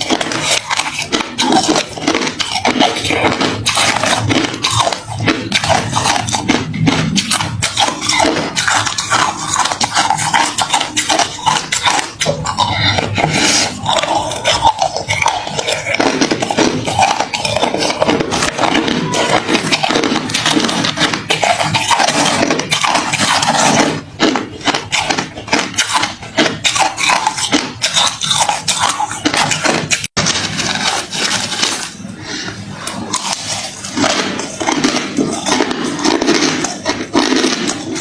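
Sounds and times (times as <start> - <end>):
ice being chewed: 0.0 - 38.0.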